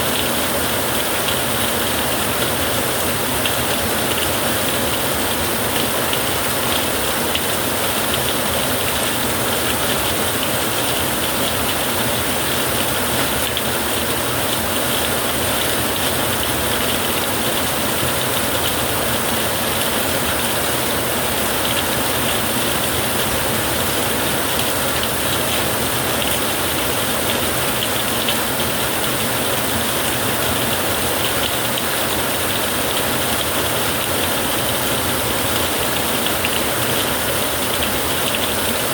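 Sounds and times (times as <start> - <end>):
rain on a tin roof: 0.0 - 38.9.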